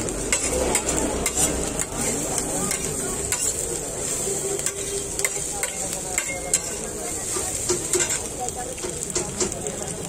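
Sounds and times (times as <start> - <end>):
metal spatula scraping griddle: 0.0 - 9.6
meat sizzling on griddle: 0.0 - 10.0.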